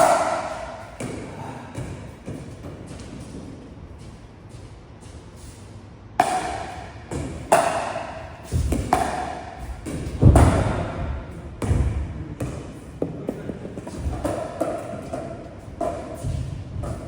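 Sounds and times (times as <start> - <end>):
paddles hitting pickleball: 0.0 - 3.6, 6.2 - 17.0.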